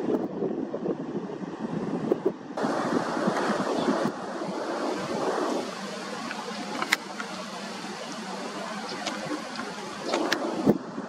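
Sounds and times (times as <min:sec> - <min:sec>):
distant jet airliner engine: 0:00.0 - 0:11.0
wind on microphone: 0:00.0 - 0:11.0.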